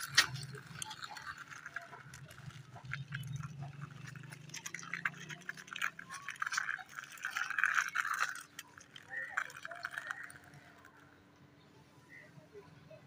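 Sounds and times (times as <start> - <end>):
plastic wheels grinding on concrete: 0.0 - 11.1.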